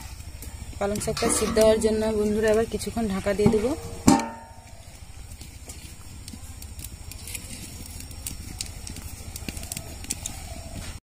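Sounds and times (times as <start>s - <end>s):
steady low rumble: 0.0s - 10.9s
wood fire crackling: 0.0s - 11.0s.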